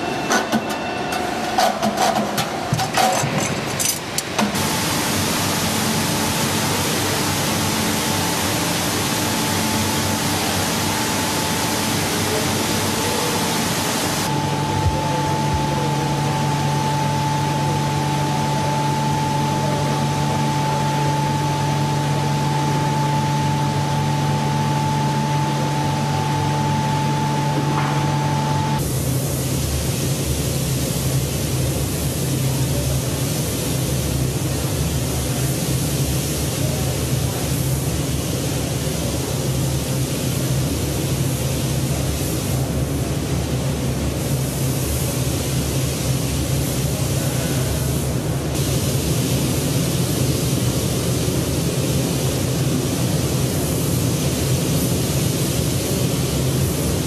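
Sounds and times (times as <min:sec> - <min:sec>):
factory machinery running: 0:00.0 - 0:57.0.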